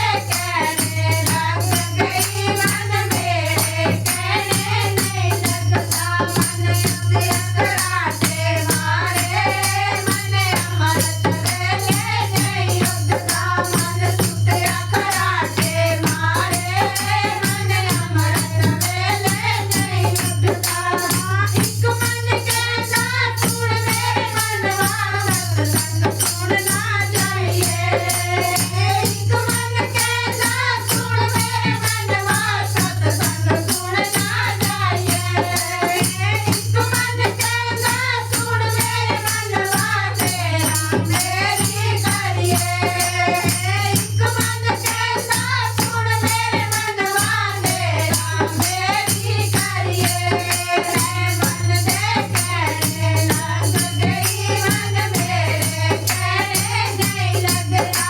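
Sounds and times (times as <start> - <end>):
rattling percussion beat: 0.0 - 58.0.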